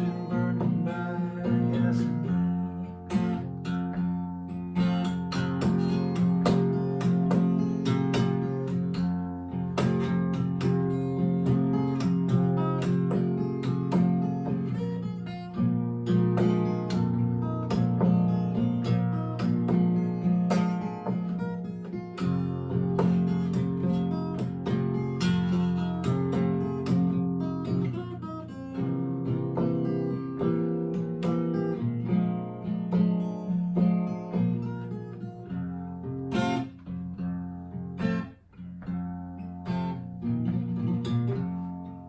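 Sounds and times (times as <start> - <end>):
acoustic blues guitar: 0.0 - 42.0.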